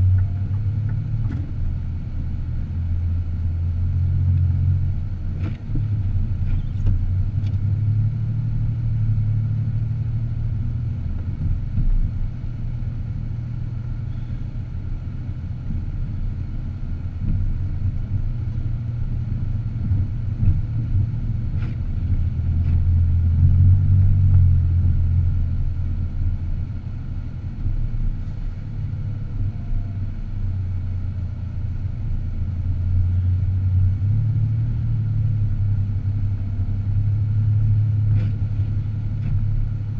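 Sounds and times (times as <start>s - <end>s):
car driving: 0.0s - 39.9s.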